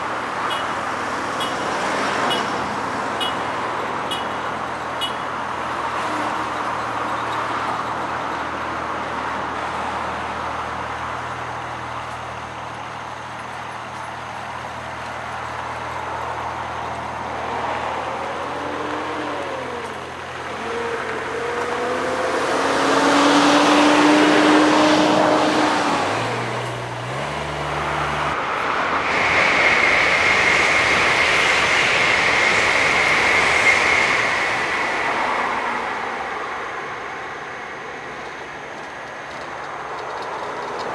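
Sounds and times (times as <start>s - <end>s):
high-speed train passing: 0.0s - 27.4s, 28.3s - 40.9s
bus diesel engine: 0.0s - 40.9s.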